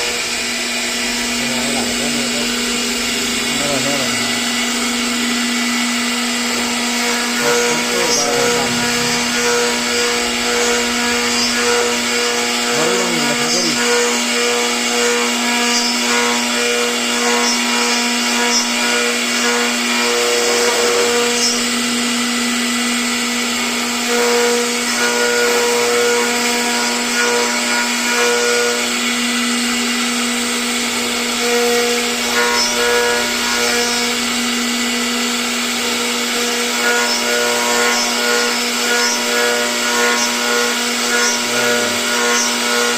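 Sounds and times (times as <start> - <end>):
rasping cutting noise: 0.0 - 42.9
router spindle whining: 0.0 - 42.9.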